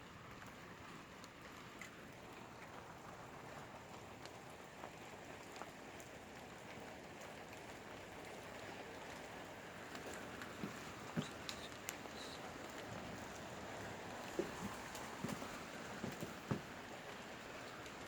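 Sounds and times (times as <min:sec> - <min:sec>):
raindrops tapping on surfaces: 0:00.0 - 0:18.0
steady rain falling: 0:00.0 - 0:18.0.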